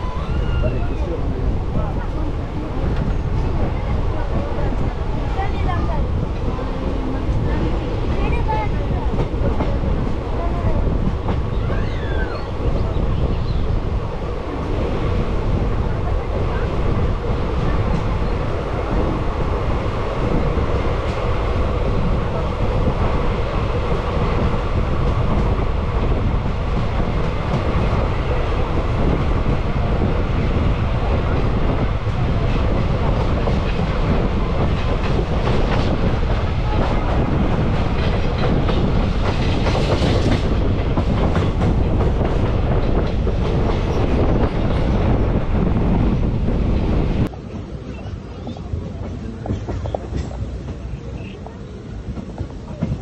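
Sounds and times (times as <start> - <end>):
train wheels rumbling on rails: 0.0 - 53.0
clickety-clack of rail joints: 1.6 - 13.4, 14.0 - 53.0.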